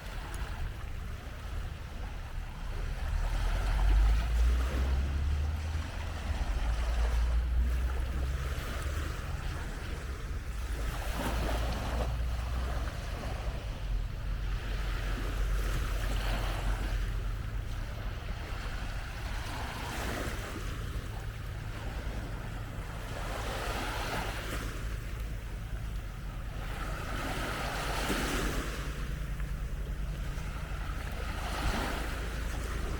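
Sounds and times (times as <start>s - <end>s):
small waves washing onto sand: 0.0s - 32.9s
wind rumbling on microphone: 0.0s - 32.9s.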